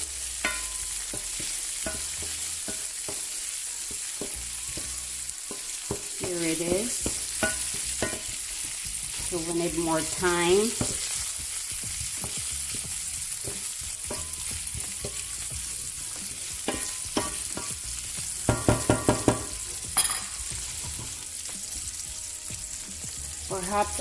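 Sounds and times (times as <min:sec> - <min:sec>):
bacon sizzling in a frying pan: 0:00.0 - 0:24.0.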